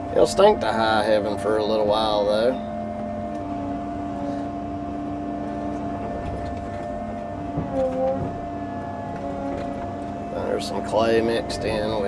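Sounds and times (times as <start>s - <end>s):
earthmoving machine engine running: 0.0s - 12.0s.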